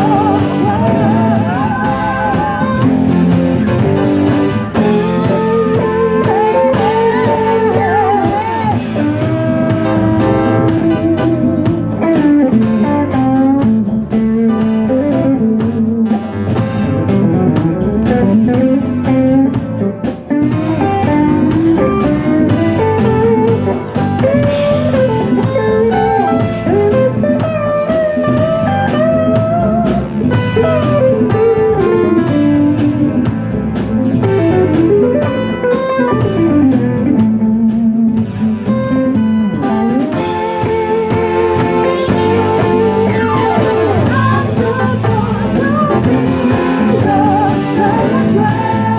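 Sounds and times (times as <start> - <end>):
blues band playing: 0.0 - 48.9.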